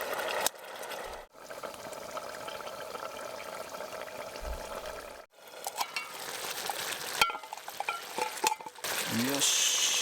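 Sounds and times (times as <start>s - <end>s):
sauce bubbling in frying pan: 0.0s - 10.0s.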